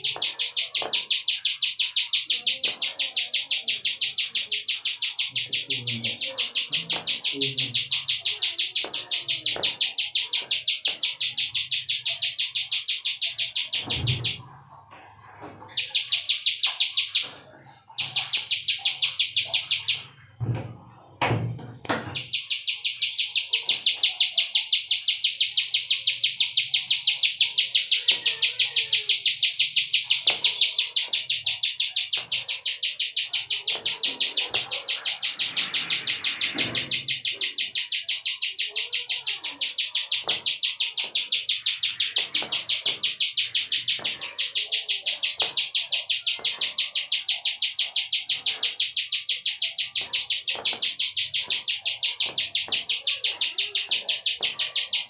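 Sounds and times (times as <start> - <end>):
bird ticking call: 0.0 - 14.4, 15.6 - 20.2, 22.0 - 55.0.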